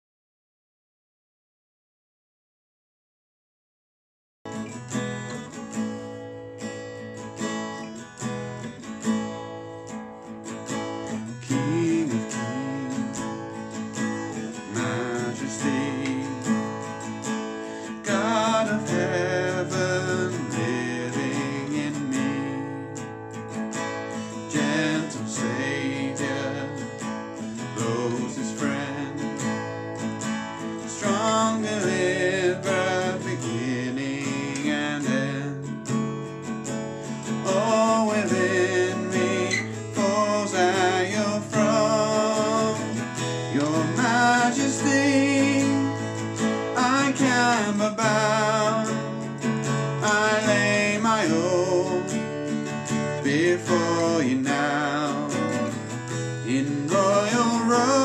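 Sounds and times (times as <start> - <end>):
strummed acoustic guitar: 4.5 - 58.0.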